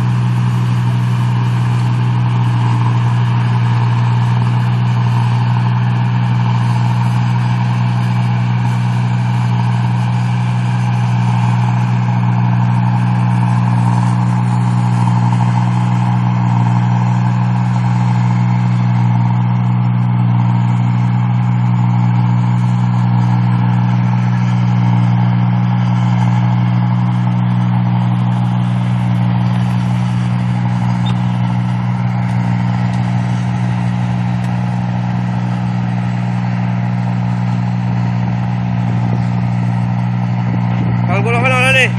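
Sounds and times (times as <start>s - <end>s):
machine engine drone: 0.0s - 41.9s.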